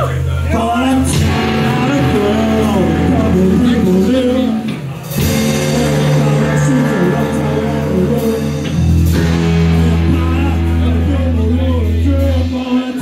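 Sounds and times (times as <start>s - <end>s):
bass guitar: 0.0s - 13.0s
distorted electric guitar: 0.0s - 13.0s
drums: 0.0s - 13.0s
man singing: 0.0s - 13.0s.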